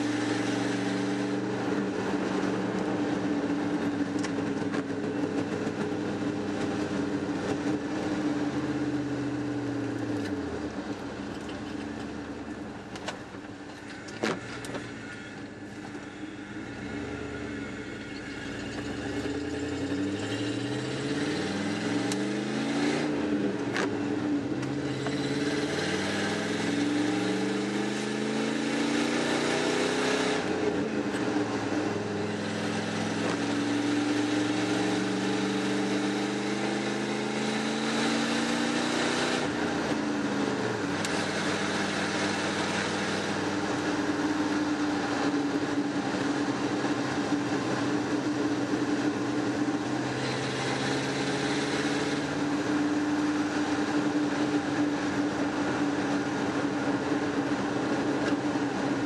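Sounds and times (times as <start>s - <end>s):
truck engine accelerating: 0.0s - 59.0s.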